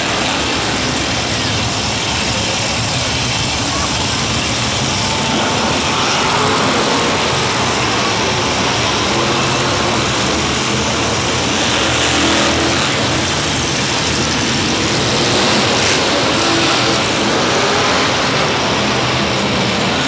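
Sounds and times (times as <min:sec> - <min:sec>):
monster truck engines running: 0:00.0 - 0:20.0.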